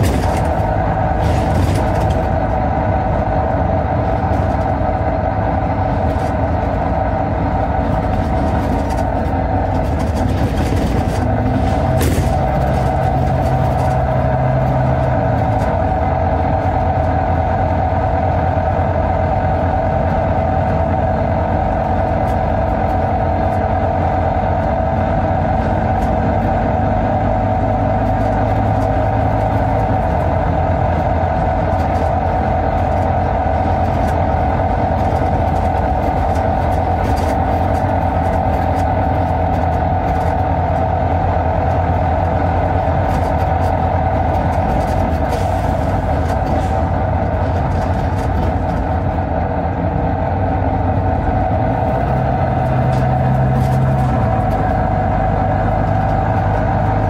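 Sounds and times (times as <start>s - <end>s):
bus diesel engine drone: 0.0s - 57.0s
steady whine: 0.0s - 57.0s.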